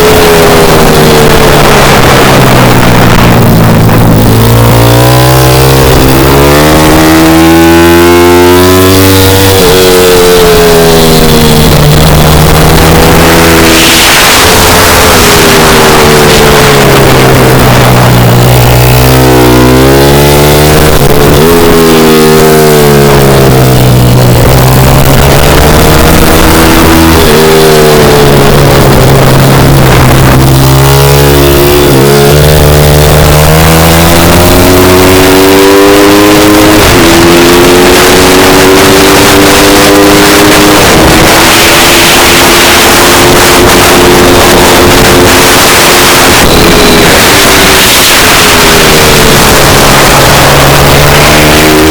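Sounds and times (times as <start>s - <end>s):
small motorbike engine revving: 0.0s - 51.9s.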